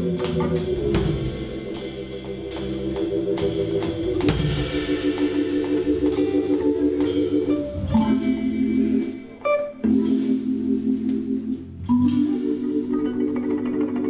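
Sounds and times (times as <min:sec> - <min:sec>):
drum kit: 0:00.0 - 0:14.0
electric guitar notes: 0:00.0 - 0:14.0
organ pulsing chords: 0:00.0 - 0:14.0.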